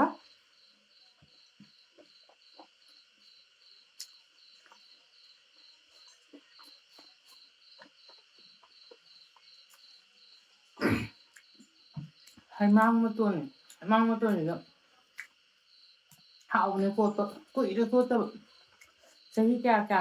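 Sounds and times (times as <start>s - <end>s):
faint insect chirping: 0.0s - 20.0s.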